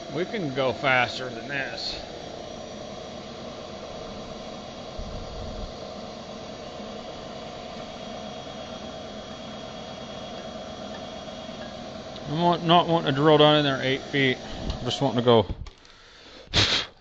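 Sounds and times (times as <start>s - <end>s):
milling machine spindle hum: 0.0s - 16.4s.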